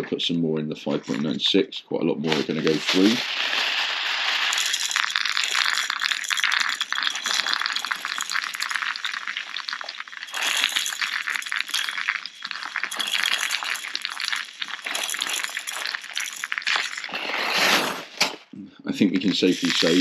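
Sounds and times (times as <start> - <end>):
plastic pellets rattling: 2.3 - 17.7, 19.2 - 20.0.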